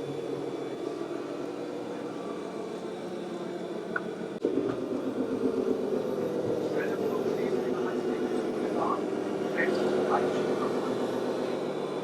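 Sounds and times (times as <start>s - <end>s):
model trucks motor hum: 0.0s - 12.0s.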